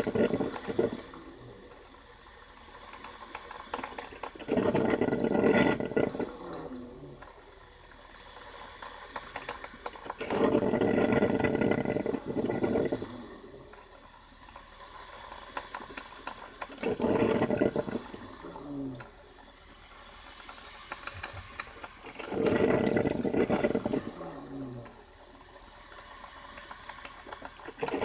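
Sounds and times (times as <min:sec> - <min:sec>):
coffee maker gurgling and hissing: 0:00.0 - 0:28.0.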